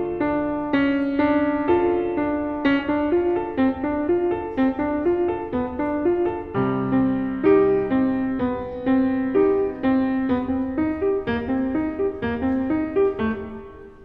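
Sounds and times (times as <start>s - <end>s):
piano notes: 0.0s - 14.0s.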